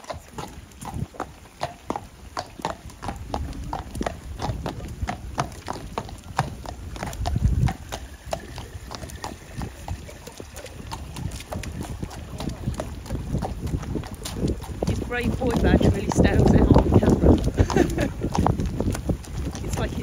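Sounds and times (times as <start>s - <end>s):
hooves clip-clopping on concrete: 0.0s - 20.0s.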